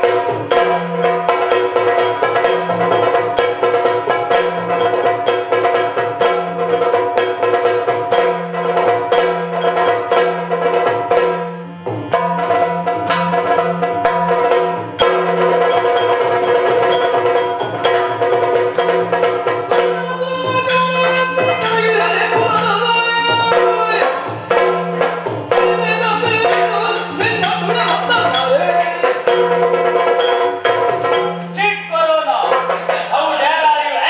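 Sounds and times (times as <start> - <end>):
fast drumming: 0.0 - 34.0.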